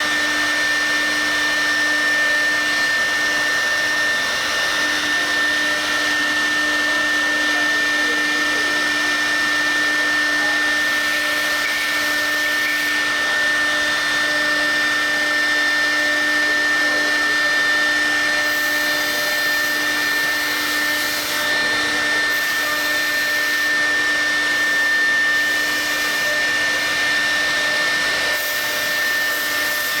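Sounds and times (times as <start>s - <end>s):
router spindle motor whine: 0.0s - 30.0s.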